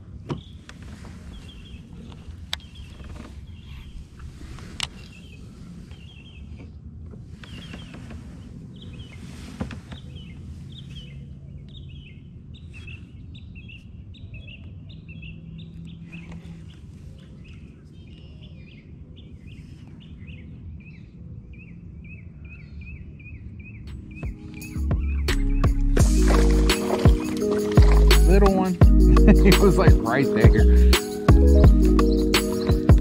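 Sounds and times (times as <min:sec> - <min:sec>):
small birds chirping: 0:00.1 - 0:33.0.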